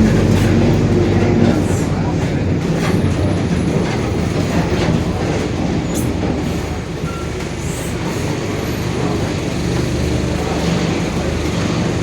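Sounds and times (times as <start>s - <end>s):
diesel bus engine growling: 0.0s - 12.0s.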